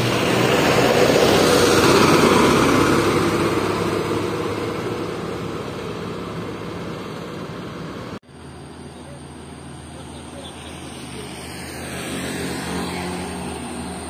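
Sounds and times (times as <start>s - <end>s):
bus engine passing: 0.0s - 14.0s.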